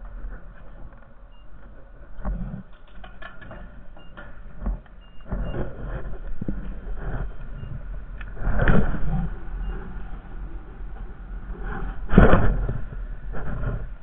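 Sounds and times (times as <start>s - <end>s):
atv engine rumbling: 0.0s - 14.0s
knocks and scraping: 0.0s - 14.0s.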